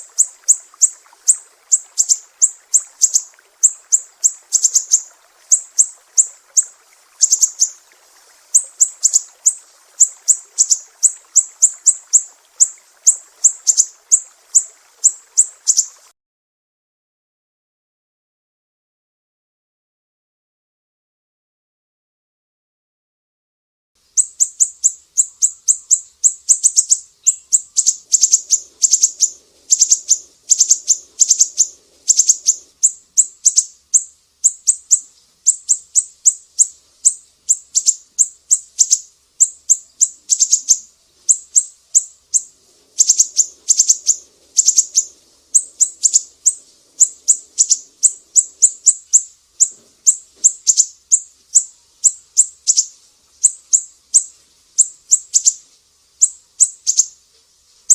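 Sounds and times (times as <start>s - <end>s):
songbird chirping: 0.0s - 16.1s, 24.0s - 57.9s.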